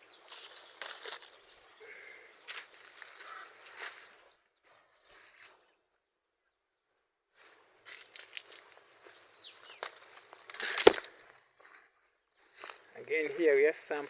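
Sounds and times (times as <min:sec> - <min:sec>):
footsteps crunching through dry grass: 0:00.0 - 0:05.6, 0:07.4 - 0:14.0
small birds chirping: 0:00.0 - 0:14.0.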